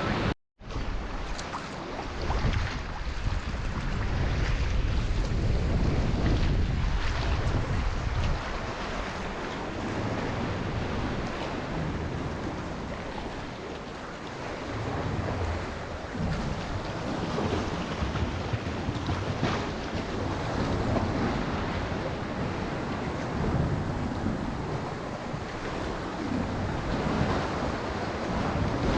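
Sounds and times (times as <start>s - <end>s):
ocean waves washing: 0.0s - 28.9s
wind buffeting microphone: 0.0s - 28.9s.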